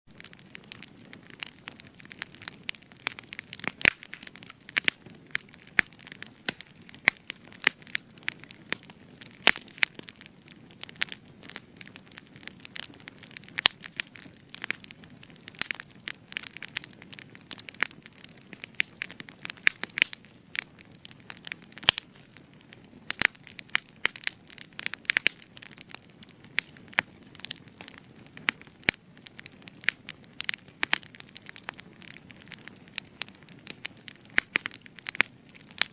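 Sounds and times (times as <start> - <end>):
fire crackling and popping: 0.1 - 35.9.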